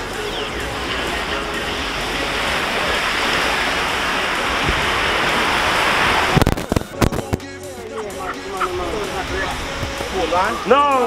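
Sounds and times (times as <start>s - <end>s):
surf washing onto beach: 0.0s - 7.4s, 8.4s - 11.0s.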